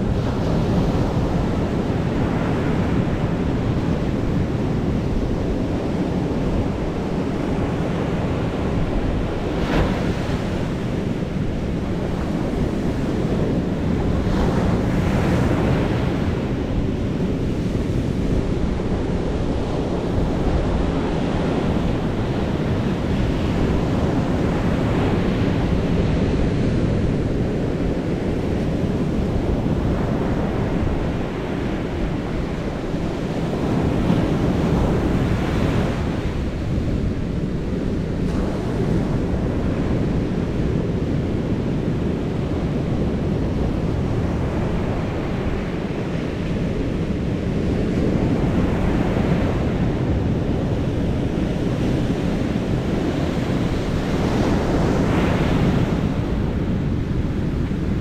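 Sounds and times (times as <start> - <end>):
waves rumbling: 0.0 - 58.0.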